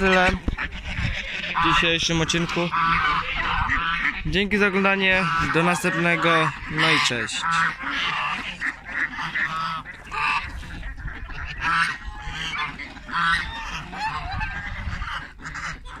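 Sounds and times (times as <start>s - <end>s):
ducks and chickens calling: 0.0s - 16.0s
geese honking: 0.0s - 16.0s.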